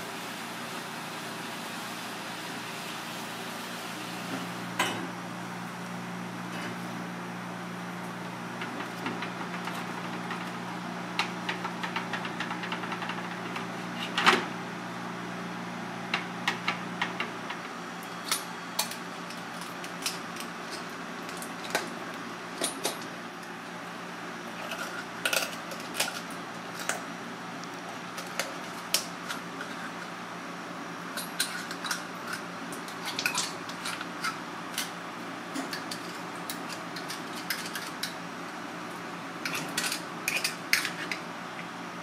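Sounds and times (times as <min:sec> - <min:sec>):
steady kitchen hum: 0:00.0 - 0:42.0.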